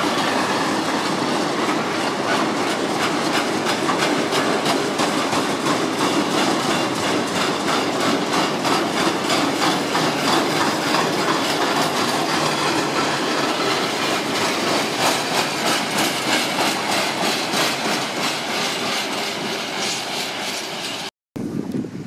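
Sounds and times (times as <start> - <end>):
train wheels clattering over rails: 0.0 - 21.1.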